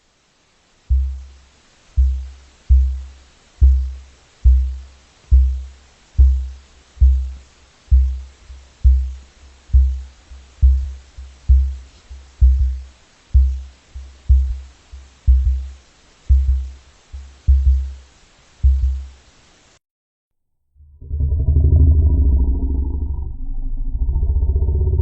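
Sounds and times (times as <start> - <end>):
deep low booming call: 0.9 - 1.4, 2.0 - 18.0, 20.8 - 25.0.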